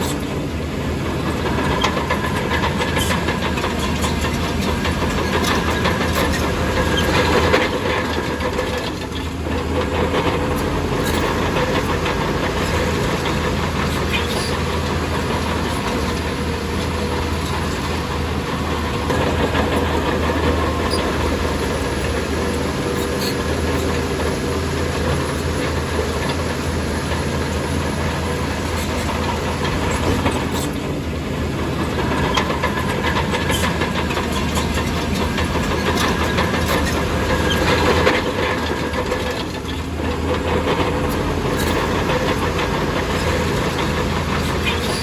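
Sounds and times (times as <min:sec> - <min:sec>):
diesel machinery engine drone: 0:00.0 - 0:45.0.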